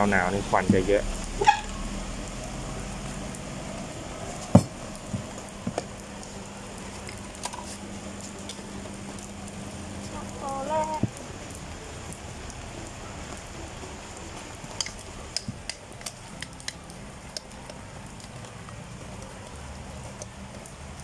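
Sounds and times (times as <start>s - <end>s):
heavy rain hiss: 0.0s - 21.0s.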